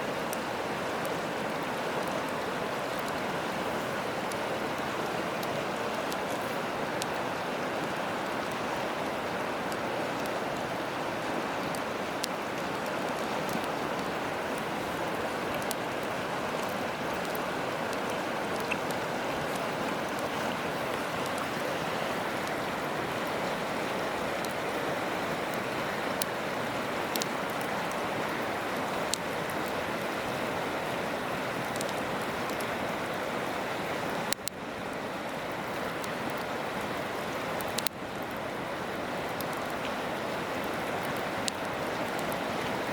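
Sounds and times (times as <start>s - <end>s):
river rushing: 0.0s - 42.9s
campfire crackling and popping: 0.1s - 42.9s.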